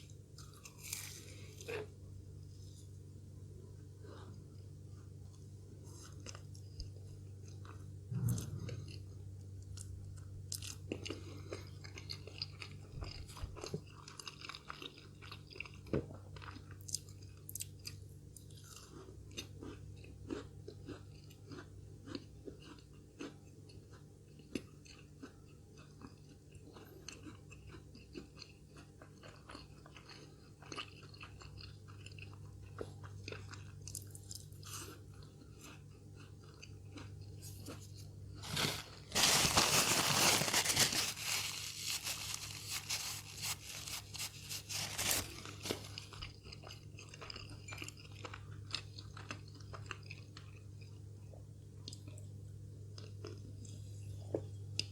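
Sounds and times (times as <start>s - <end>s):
person chewing crunchy food: 0.0s - 2.0s, 5.9s - 52.2s, 53.0s - 54.9s
low steady hum: 0.0s - 54.9s.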